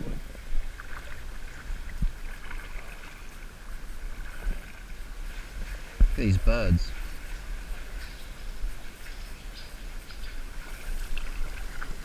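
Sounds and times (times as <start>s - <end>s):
water swishing from paddle strokes: 0.0s - 12.0s.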